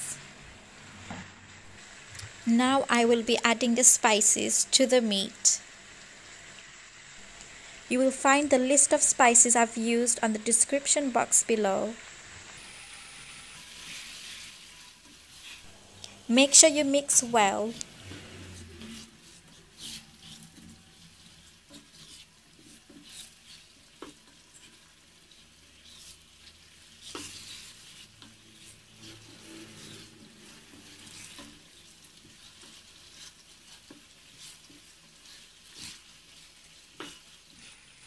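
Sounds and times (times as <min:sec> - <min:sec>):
food sizzling in a pot: 0:00.0 - 0:38.0.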